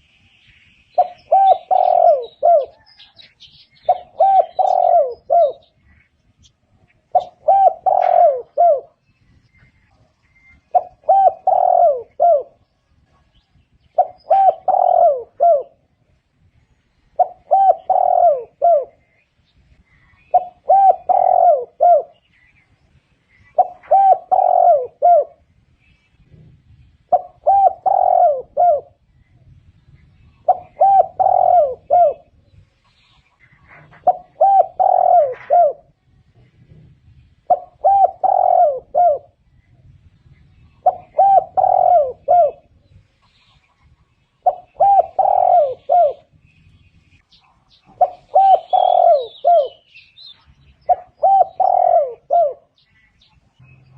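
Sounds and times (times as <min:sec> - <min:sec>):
dove cooing: 0:01.0 - 0:09.0, 0:09.9 - 0:16.1, 0:17.0 - 0:19.2, 0:19.8 - 0:22.4, 0:23.3 - 0:25.5, 0:26.2 - 0:29.4, 0:30.2 - 0:46.8, 0:47.4 - 0:53.3.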